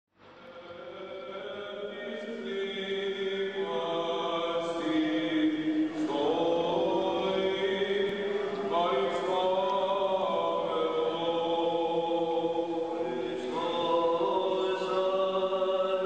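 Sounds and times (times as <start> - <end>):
voices chanting held notes: 0.4 - 16.0.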